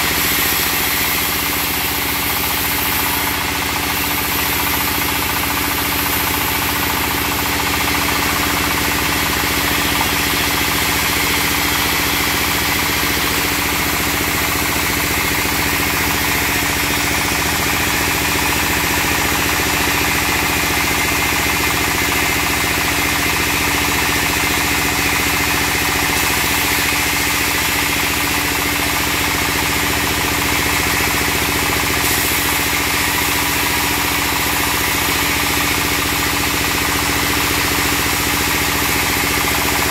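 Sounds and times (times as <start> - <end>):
band saw cutting log: 0.0 - 39.9
diesel engine running: 0.0 - 39.9.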